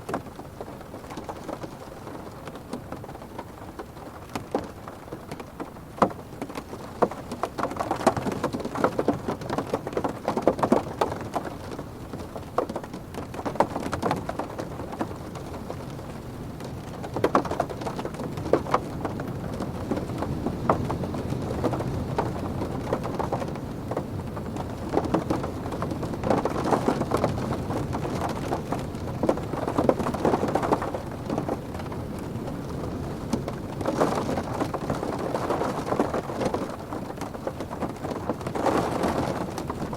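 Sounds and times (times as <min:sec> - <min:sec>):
low rumble of wind: 0:00.0 - 0:39.9
rain pattering on a car roof: 0:00.0 - 0:39.9.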